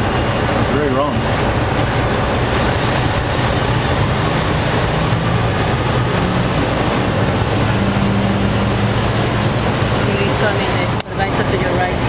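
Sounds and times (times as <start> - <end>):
diesel engine idling: 0.0 - 12.0
rush of noise: 0.0 - 12.0.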